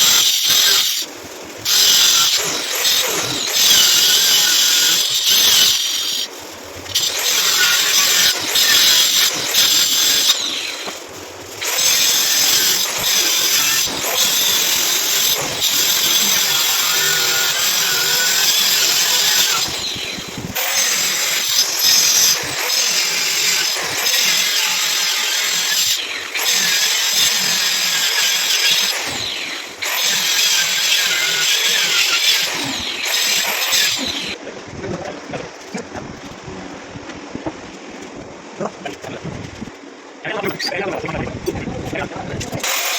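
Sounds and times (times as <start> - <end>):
electric power tool running: 0.0 - 34.4, 42.6 - 42.9.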